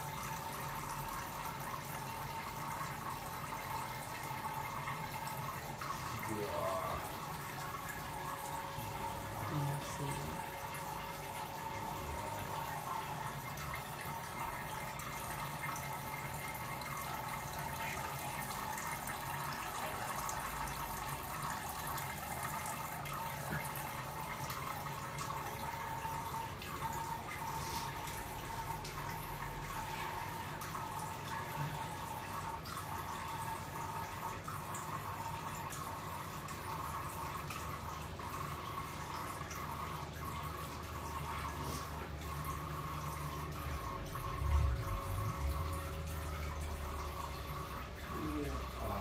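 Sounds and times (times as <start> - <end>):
urine trickling into toilet water: 0.0 - 49.0.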